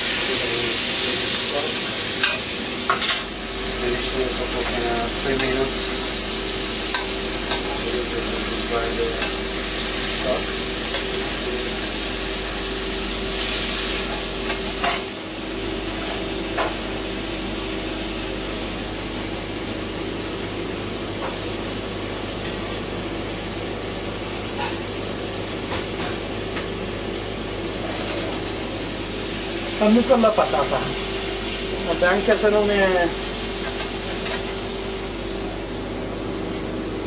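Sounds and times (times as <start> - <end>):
food sizzling in a frying pan: 0.0 - 36.9
steady hum: 0.0 - 37.0.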